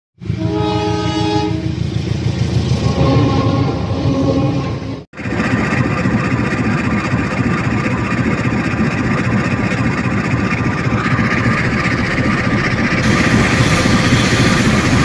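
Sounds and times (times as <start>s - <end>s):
diesel locomotive engines idling: 0.2s - 15.0s.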